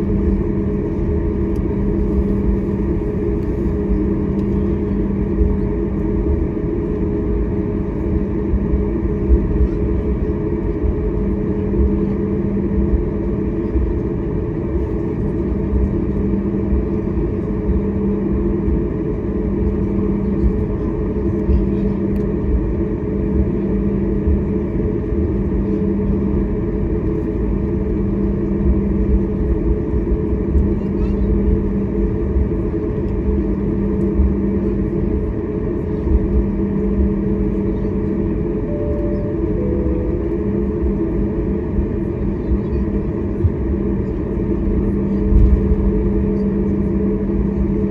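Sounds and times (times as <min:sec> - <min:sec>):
jet engine drone in cabin: 0:00.0 - 0:47.9.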